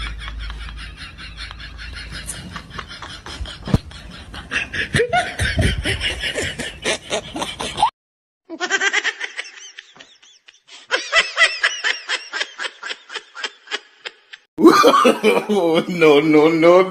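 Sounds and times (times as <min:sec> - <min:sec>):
laughter: 0:00.0 - 0:07.9, 0:08.5 - 0:16.7.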